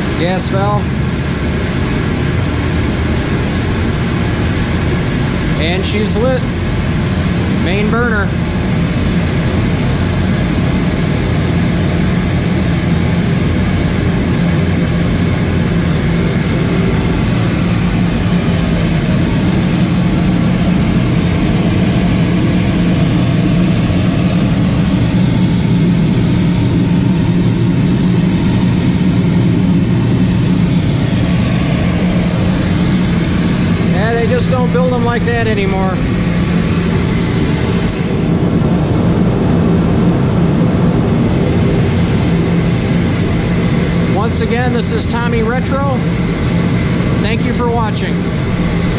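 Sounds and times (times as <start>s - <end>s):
burner fan and flame rushing: 0.0s - 48.9s
low hum: 0.0s - 48.9s.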